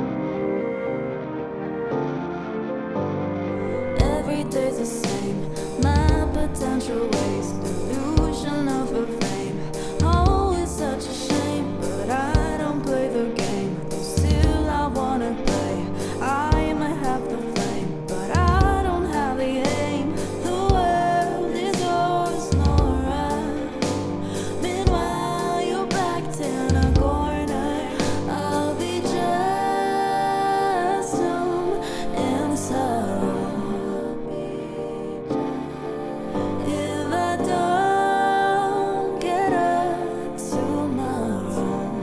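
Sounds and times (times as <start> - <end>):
pop song with sung vocals: 3.6 - 42.0.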